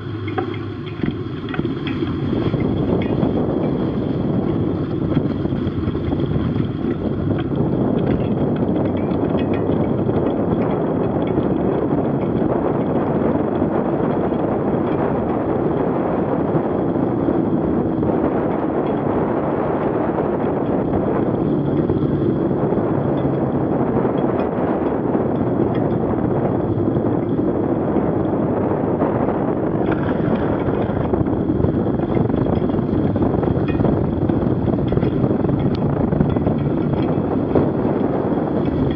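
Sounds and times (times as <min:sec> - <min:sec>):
bicycle tyre rolling on slush: 0:00.0 - 0:38.9
wind on microphone: 0:00.0 - 0:38.9.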